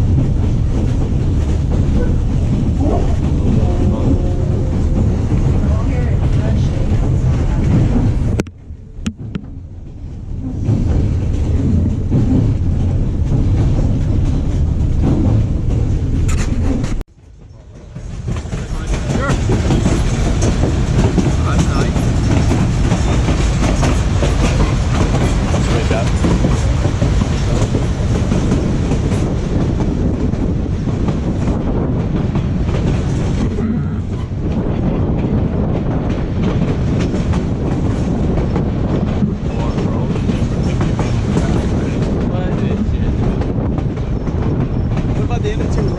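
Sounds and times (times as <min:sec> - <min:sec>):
wheels clacking over rails: 0:00.0 - 0:08.4, 0:09.0 - 0:45.9
train rumbling along track: 0:00.0 - 0:45.9.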